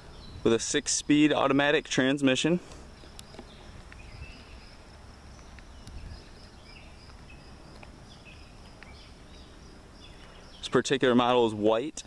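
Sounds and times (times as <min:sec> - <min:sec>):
birds chirping: 0:00.0 - 0:12.0
insect trill: 0:00.0 - 0:12.0.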